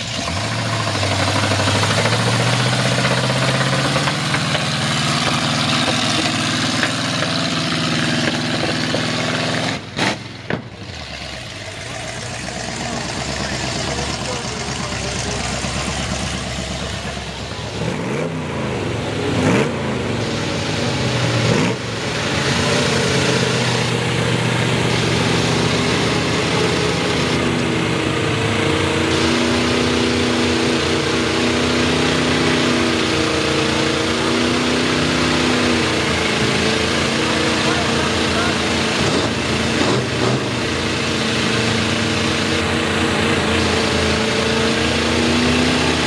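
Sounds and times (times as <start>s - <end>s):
truck engine revving hard: 0.0s - 46.0s.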